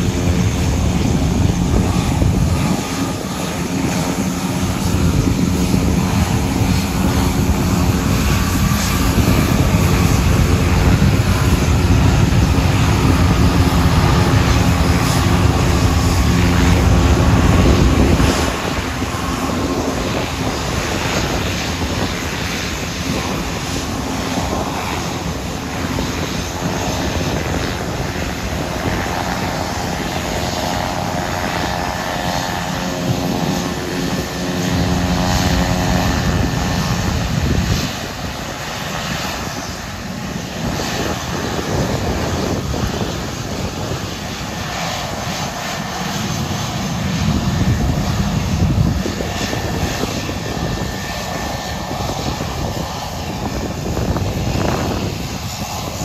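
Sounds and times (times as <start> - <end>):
jet engine take-off rumble: 0.0 - 56.0
jet engine whine: 0.0 - 56.0
jet engines taxiing: 0.0 - 56.0.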